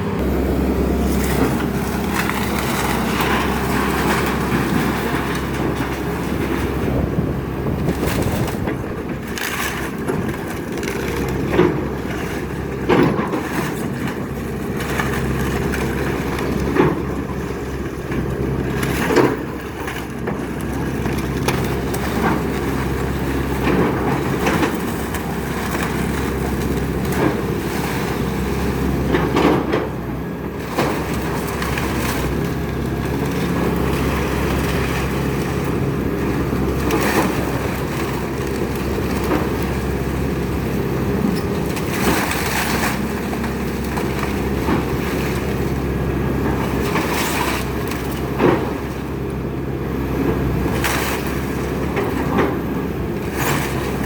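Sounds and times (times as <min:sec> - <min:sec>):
excavator engine running: 0:00.0 - 0:54.0
wood crushing and splintering: 0:00.0 - 0:54.0.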